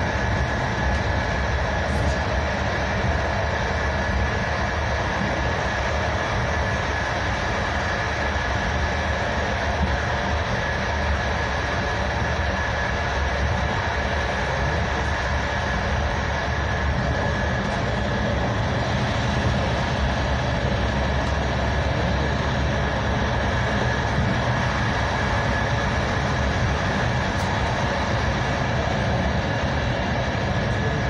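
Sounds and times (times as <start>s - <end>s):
thin steady whine: 0.0s - 31.0s
train rumbling at speed: 0.0s - 31.0s.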